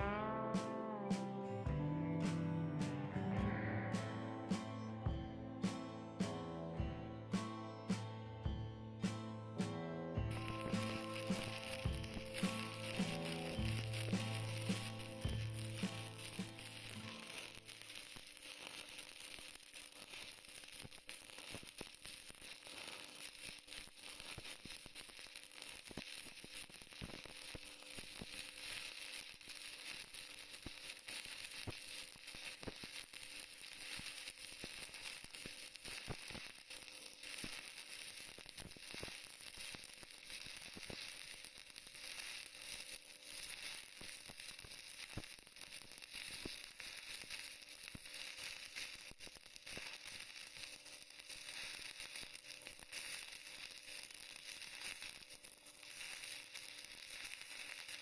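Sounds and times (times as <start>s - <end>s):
welding arc sizzling and crackling: 10.3s - 58.0s.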